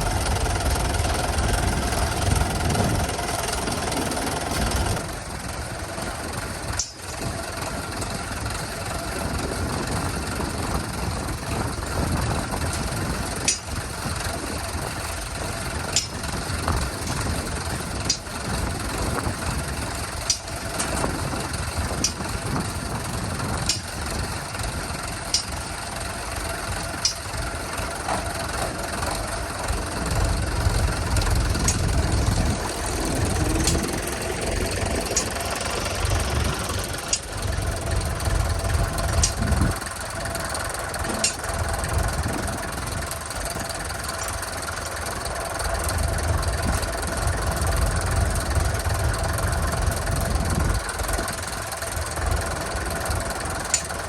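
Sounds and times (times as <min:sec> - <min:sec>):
engine rumbling: 0:00.0 - 0:54.0.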